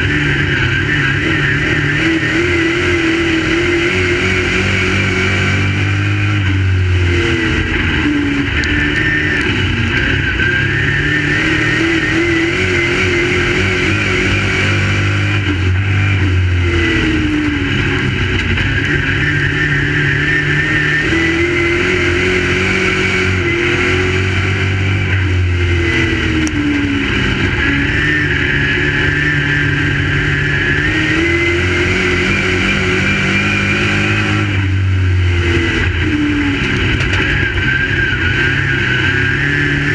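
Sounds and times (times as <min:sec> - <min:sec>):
race car engines rising and falling: 0:00.0 - 0:39.9.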